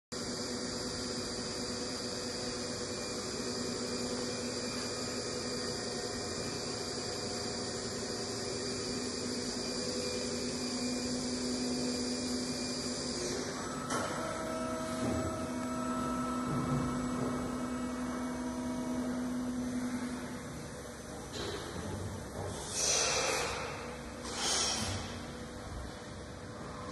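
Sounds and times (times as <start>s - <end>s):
machine shop equipment humming: 0.1s - 26.9s
high machine whine: 0.2s - 26.9s.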